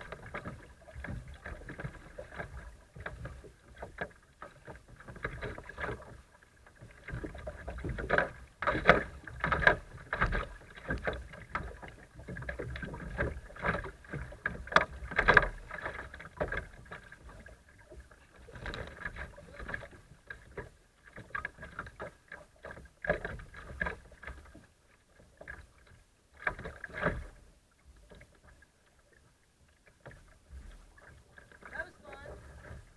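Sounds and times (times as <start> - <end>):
water splashing against kayak hull: 0.0 - 32.9.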